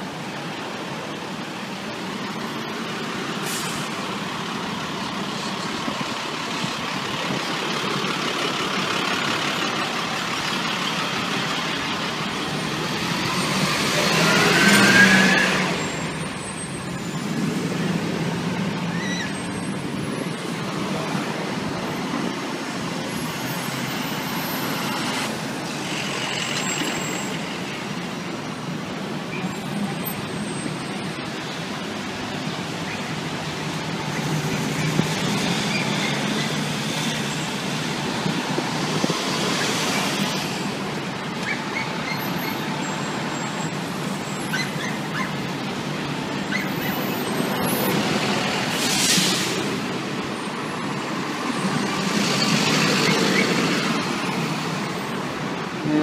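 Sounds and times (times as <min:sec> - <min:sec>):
street traffic hum: 0:00.0 - 0:56.0
heavy vehicles passing with hiss: 0:00.1 - 0:56.0.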